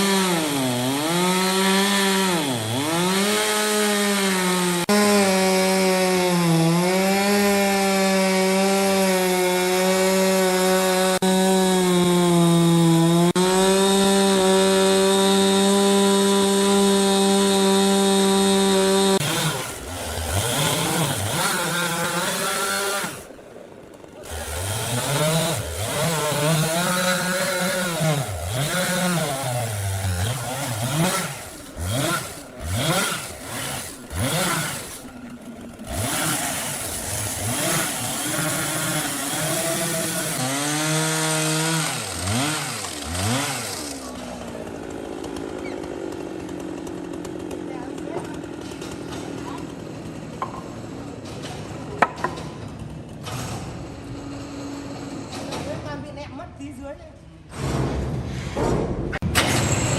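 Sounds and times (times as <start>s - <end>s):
chainsaw cutting wood: 0.0s - 55.8s.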